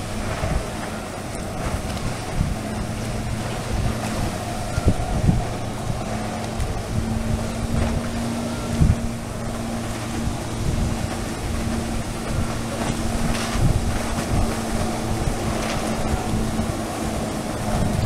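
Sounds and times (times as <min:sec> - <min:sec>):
jet ski engine running: 0:00.0 - 0:18.0
water jets rushing: 0:00.0 - 0:18.0
wind buffeting microphone: 0:00.0 - 0:18.0.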